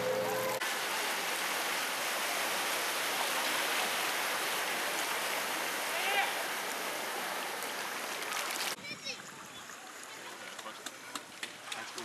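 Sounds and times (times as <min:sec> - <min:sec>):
floodwater rushing and splashing: 0:00.0 - 0:12.0.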